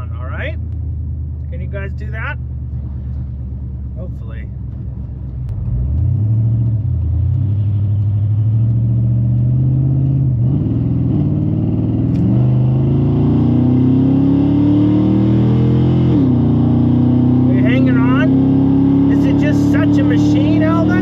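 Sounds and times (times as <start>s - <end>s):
pickup truck accelerating: 0.0s - 21.0s.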